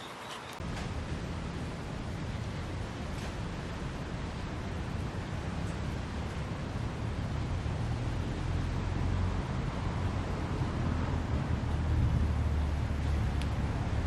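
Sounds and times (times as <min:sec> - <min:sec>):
fire crackle: 0:00.6 - 0:14.0
wood fire burning: 0:00.6 - 0:14.0.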